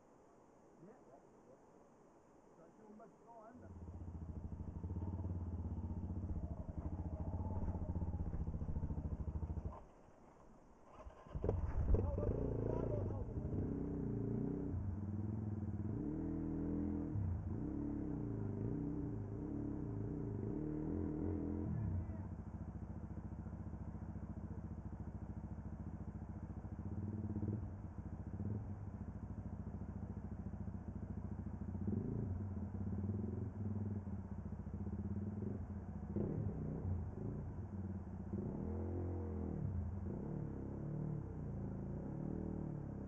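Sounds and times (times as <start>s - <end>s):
motorcycle engine revving: 3.6s - 9.9s, 10.8s - 43.0s.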